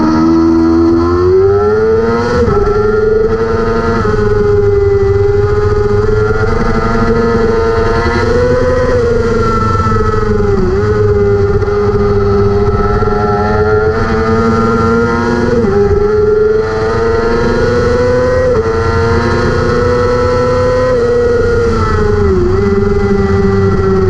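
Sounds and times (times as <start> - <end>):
racing motorcycle engine high revs: 0.0 - 24.0.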